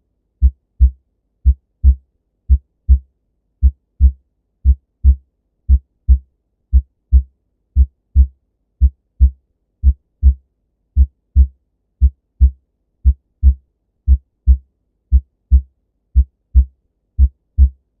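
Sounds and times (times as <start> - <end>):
heartbeat lub-dub: 0.4 - 10.4, 11.0 - 18.0.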